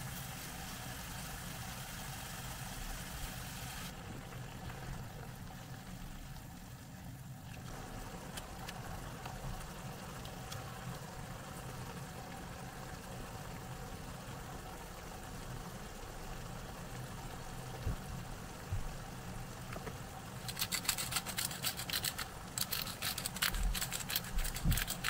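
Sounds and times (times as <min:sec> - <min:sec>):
pan simmering on stove: 0:00.0 - 0:25.0.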